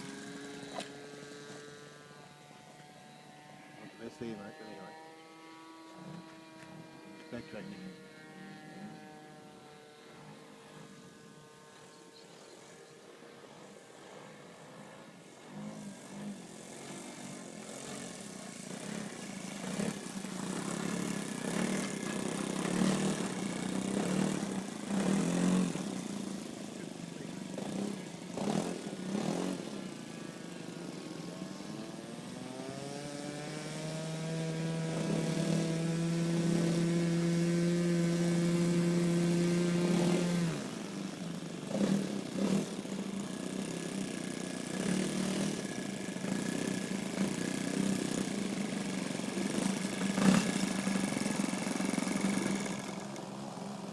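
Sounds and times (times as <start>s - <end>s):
model plane engine running: 0.0s - 53.9s.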